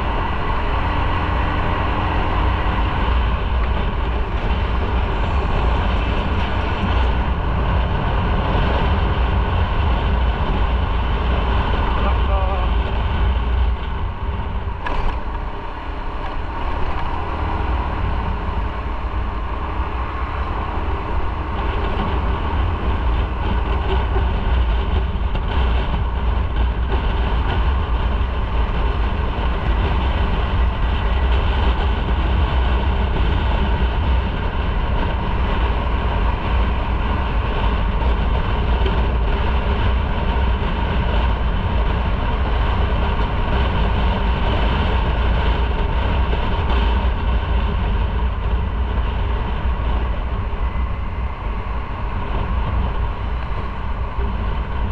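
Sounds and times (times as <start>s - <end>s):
motorcycle engine and road noise: 0.0s - 54.9s
wind rumble on microphone: 0.0s - 54.9s.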